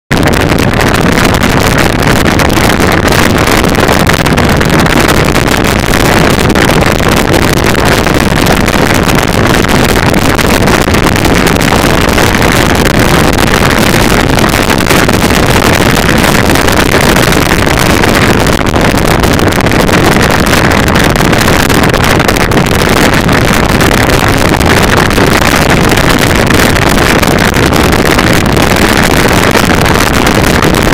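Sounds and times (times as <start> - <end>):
wind rush on microphone: 0.0 - 30.9.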